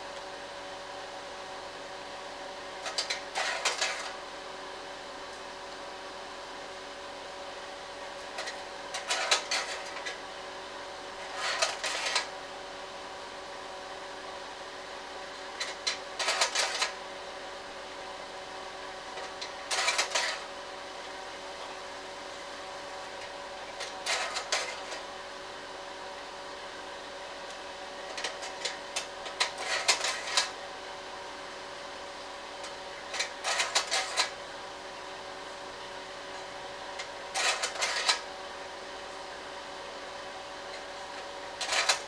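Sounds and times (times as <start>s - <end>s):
projector fan humming: 0.0s - 42.0s.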